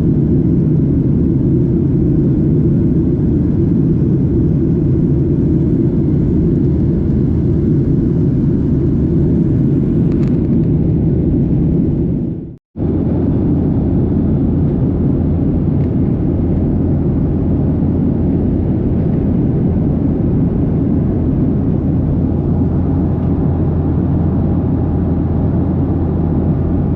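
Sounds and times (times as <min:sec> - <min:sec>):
vehicle cabin rumble: 0:03.1 - 0:26.9.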